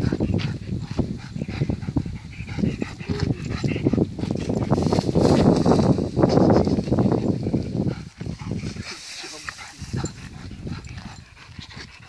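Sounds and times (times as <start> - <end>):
dog making excited noises: 0.0 - 4.7, 6.5 - 12.0.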